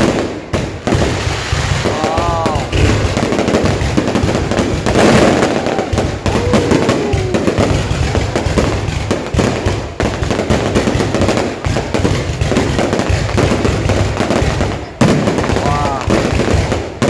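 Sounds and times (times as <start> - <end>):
fireworks crackling bangs: 0.0 - 17.0.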